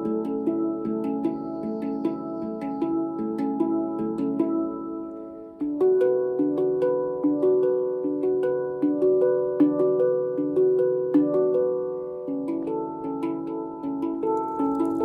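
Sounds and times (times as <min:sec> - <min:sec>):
handpan melody: 0:00.0 - 0:15.0.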